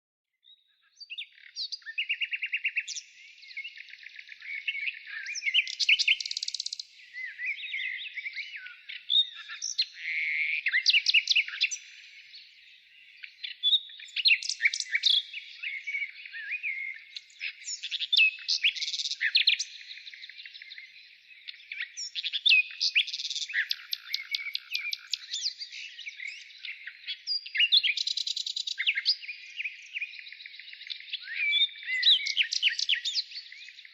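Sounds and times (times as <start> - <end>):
songbirds chirping and trilling: 0.4 - 33.9.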